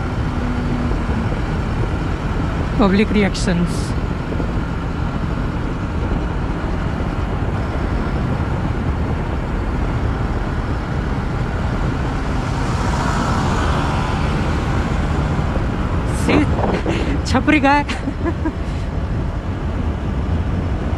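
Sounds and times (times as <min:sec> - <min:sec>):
motorcycles passing alongside: 0:00.0 - 0:20.9
wind rush and road noise: 0:00.0 - 0:20.9.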